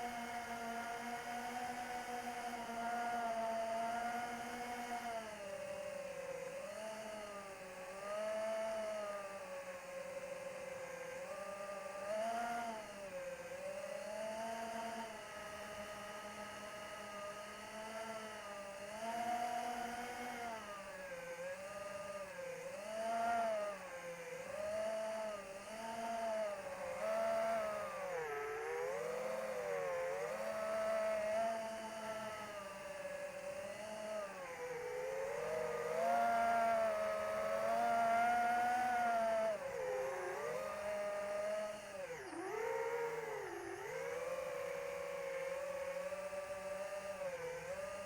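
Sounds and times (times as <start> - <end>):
model plane motor whining: 0.0 - 48.0.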